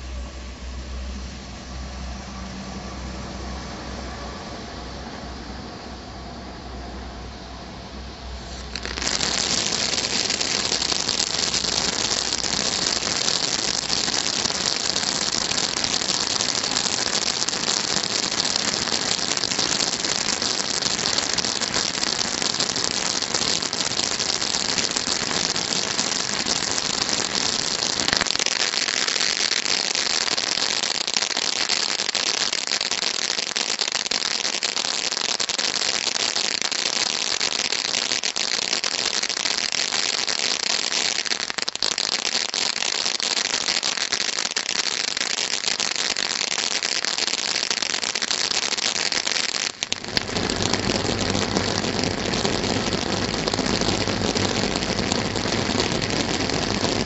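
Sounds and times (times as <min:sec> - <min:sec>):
firework fountain hissing and crackling: 0:00.0 - 0:57.0.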